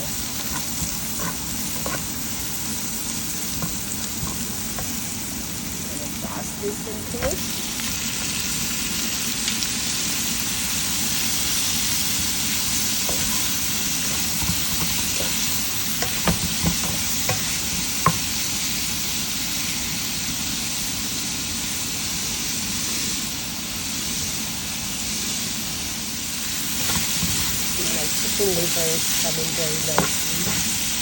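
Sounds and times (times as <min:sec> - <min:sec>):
liver sizzling in a pan: 0:00.0 - 0:31.0.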